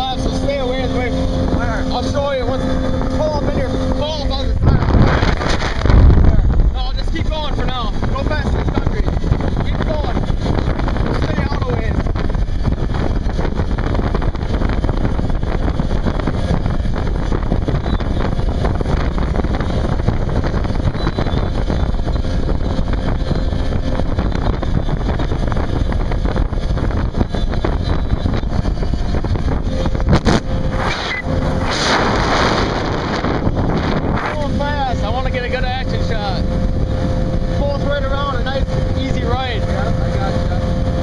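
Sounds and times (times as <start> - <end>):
motorboat engine: 0.0 - 41.0
wind buffeting microphone: 0.0 - 41.0.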